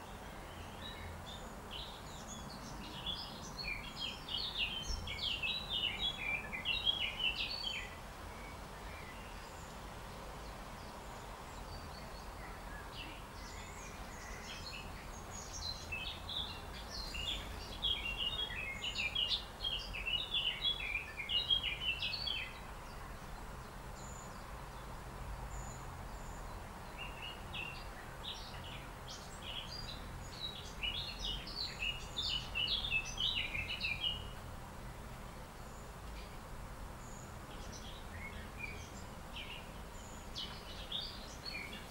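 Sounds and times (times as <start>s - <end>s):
low background noise: 0.0s - 41.9s
songbird chirping: 0.0s - 41.9s.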